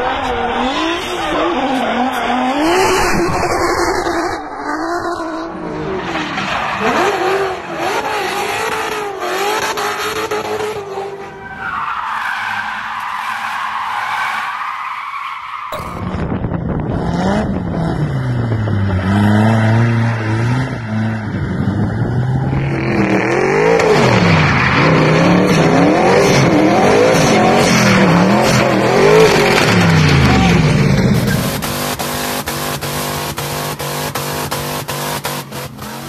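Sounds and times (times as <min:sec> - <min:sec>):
car engine revving: 0:00.0 - 0:11.3, 0:15.8 - 0:36.0.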